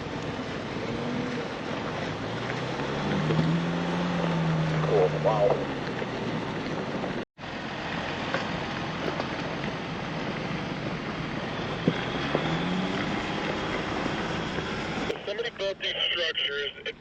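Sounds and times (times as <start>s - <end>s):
vehicle driving on dirt trail: 0.0s - 16.7s.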